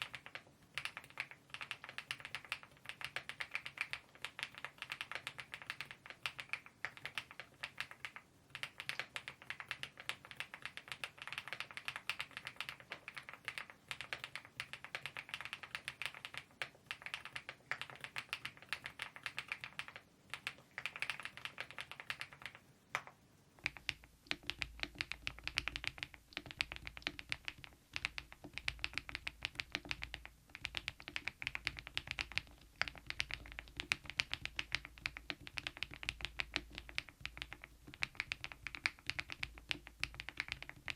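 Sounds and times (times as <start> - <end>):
typing on a mechanical keyboard: 0.0 - 40.9.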